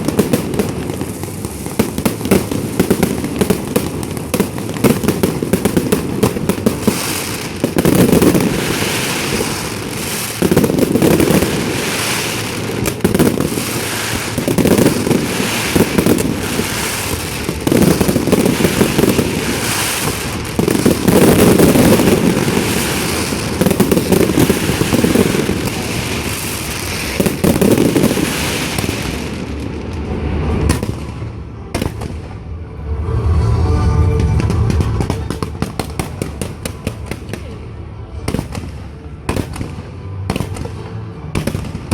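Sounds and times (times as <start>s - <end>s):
fireworks crackling and popping: 0.0s - 32.5s, 34.3s - 37.6s, 38.3s - 41.9s
fireworks booming: 0.0s - 37.5s.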